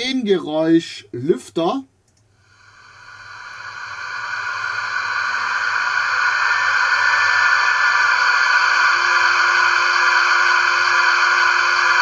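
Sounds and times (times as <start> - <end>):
model locomotive fan whir: 2.4 - 12.0.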